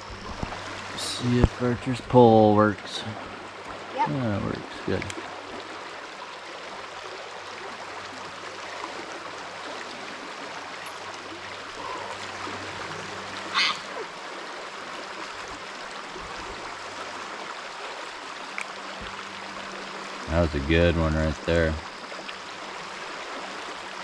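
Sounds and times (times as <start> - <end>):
river running over gravel: 0.0 - 24.0.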